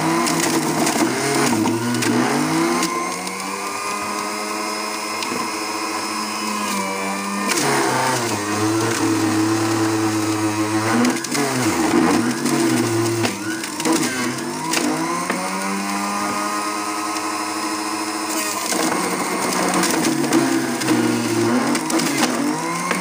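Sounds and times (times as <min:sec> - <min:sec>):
electric blender motor running: 0:00.0 - 0:23.0.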